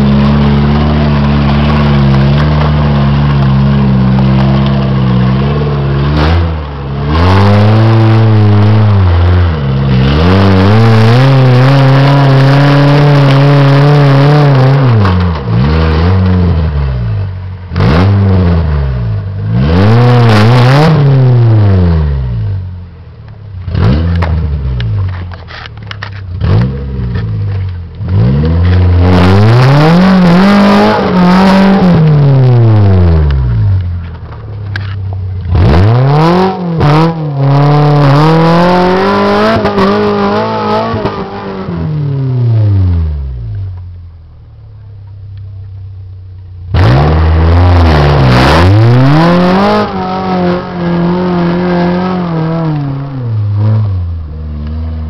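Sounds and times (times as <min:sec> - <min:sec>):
engine revving under load: 0:00.0 - 0:22.6, 0:23.6 - 0:25.1, 0:26.3 - 0:33.8, 0:34.7 - 0:43.6, 0:46.7 - 0:55.0.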